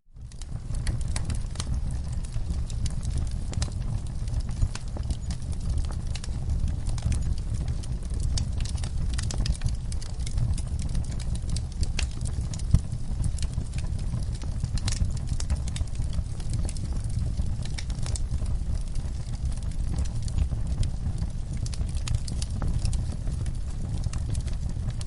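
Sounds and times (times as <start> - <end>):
low rumble of flames: 0.0 - 25.0
wood fire crackling and popping: 0.1 - 25.0.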